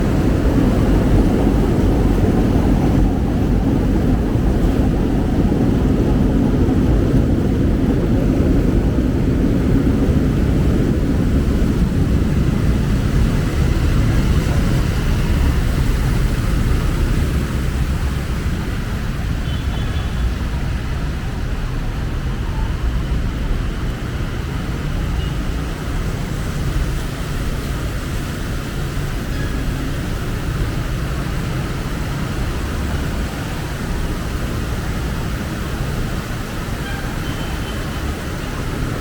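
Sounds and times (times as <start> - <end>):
heavy road traffic rumbling: 0.0 - 39.0.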